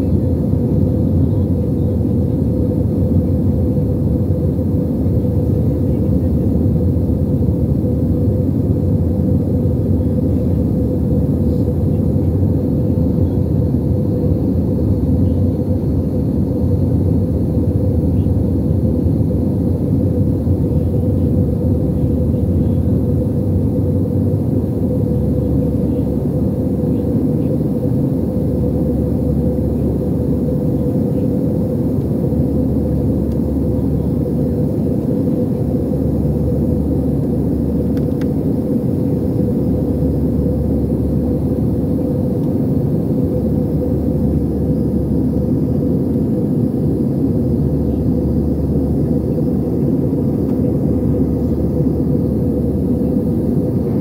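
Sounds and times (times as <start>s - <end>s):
airliner cabin roar: 0.0s - 54.0s
steady hum: 0.0s - 54.0s.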